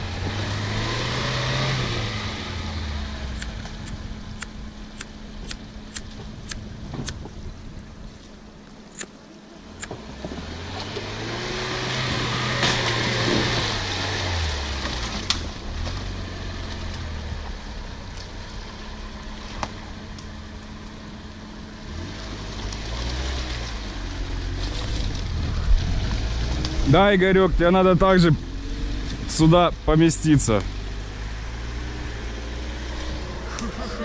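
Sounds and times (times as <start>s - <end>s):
engine revving under load: 0.0s - 7.2s, 9.7s - 17.8s, 21.7s - 34.0s.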